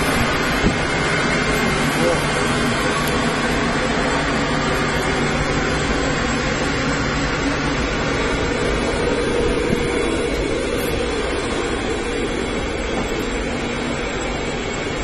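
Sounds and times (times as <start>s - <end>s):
machinery running with low hum: 0.0s - 15.0s.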